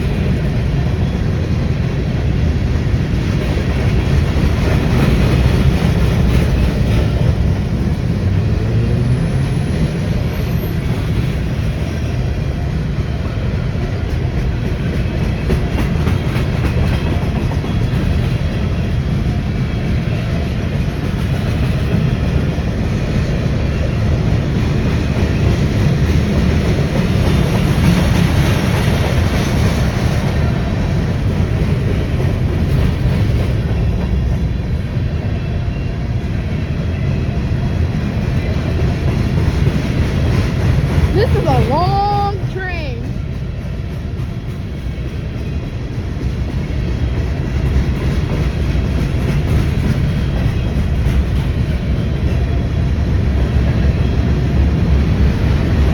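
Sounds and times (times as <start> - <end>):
steel wheels rumbling on rail: 0.0 - 55.9.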